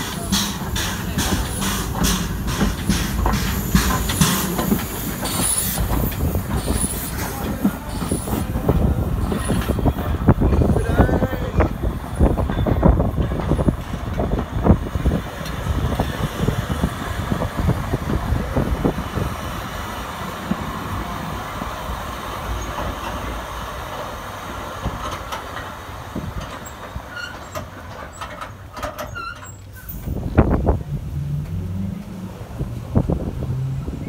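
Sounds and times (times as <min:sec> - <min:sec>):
train wheels clattering over track: 0:00.0 - 0:33.8.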